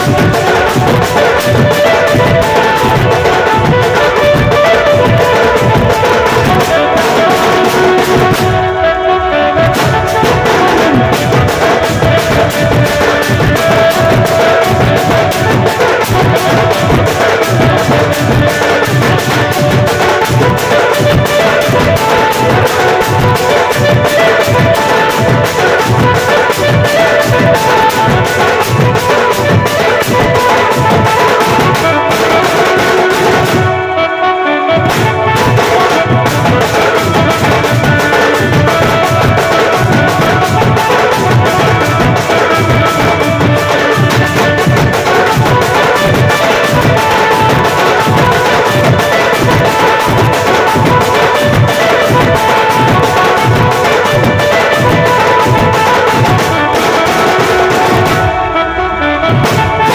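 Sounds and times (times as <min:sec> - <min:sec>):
barrel drums beating: 0:00.0 - 0:59.9
sustained melody line: 0:00.0 - 0:59.9.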